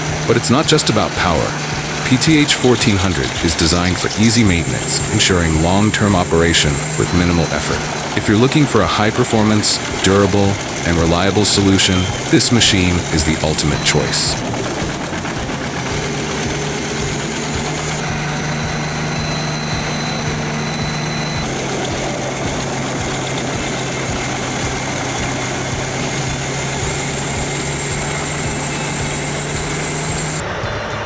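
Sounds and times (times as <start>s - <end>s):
heavy machine engine running: 0.0s - 31.0s.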